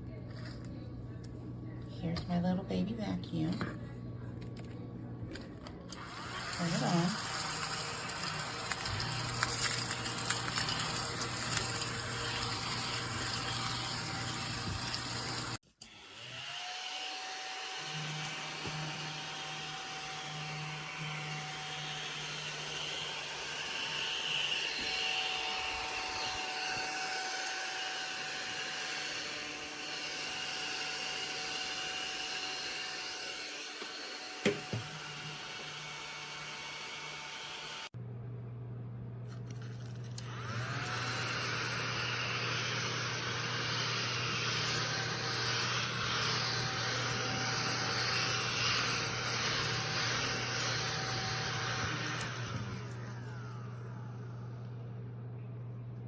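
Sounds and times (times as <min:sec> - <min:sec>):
small vacuum cleaner whirring: 0:03.2 - 0:38.0, 0:39.4 - 0:55.1.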